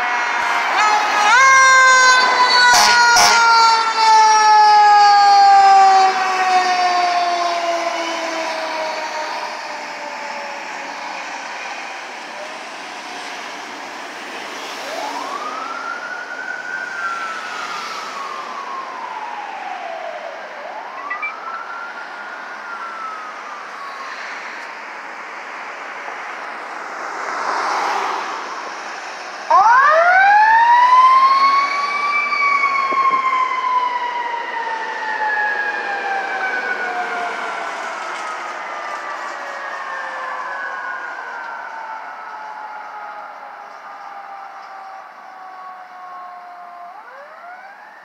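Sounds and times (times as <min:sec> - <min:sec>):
faint sirens wailing: 0:00.0 - 0:48.0
loud siren: 0:00.0 - 0:48.0.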